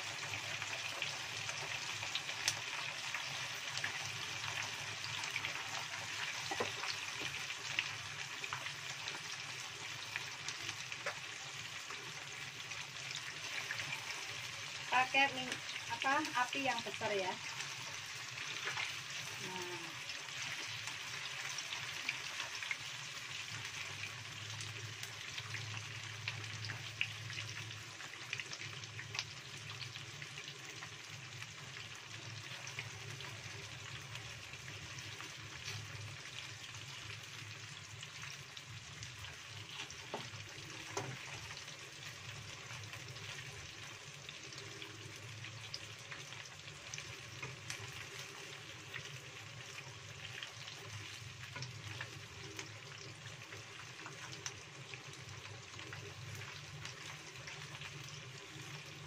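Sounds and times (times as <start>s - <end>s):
tofu deep-frying in oil: 0.0s - 59.0s.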